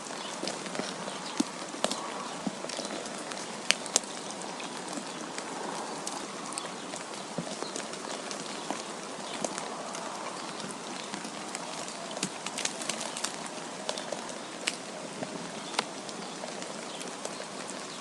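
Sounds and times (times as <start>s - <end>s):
snow ticks and taps: 0.0s - 18.0s.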